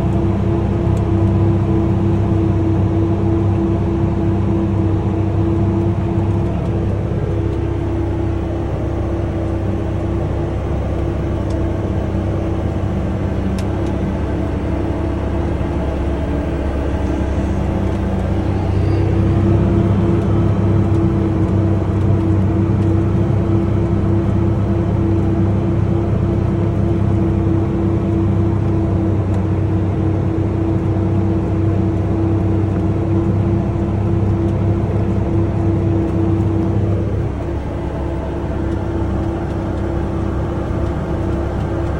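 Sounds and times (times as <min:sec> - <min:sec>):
tractor diesel engine droning: 0:00.0 - 0:41.9.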